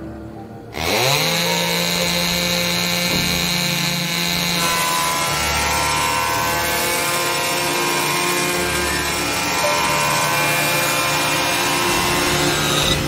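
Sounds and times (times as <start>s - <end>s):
electric chainsaw cutting root: 0.7s - 13.0s.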